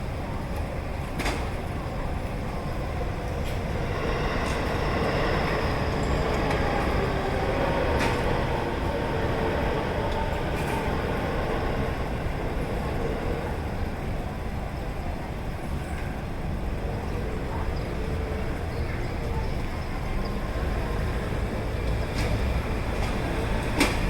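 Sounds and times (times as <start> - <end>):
electric train passing: 0.0 - 15.6, 19.3 - 24.0.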